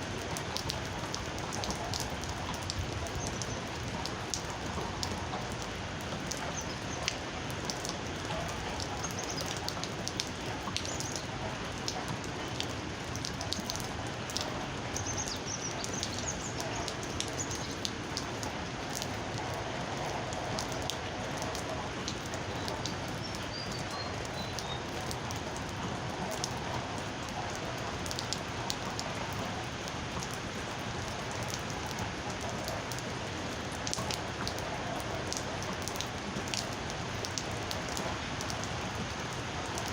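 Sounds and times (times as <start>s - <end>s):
raindrops clicking on a surface: 0.0s - 39.9s
steady rain falling: 0.0s - 39.9s.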